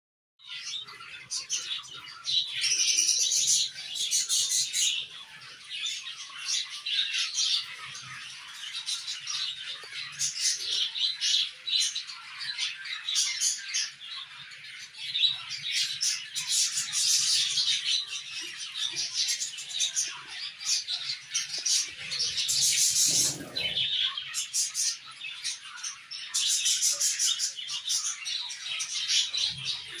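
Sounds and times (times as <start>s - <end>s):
cage birds chirping: 0.4s - 30.0s.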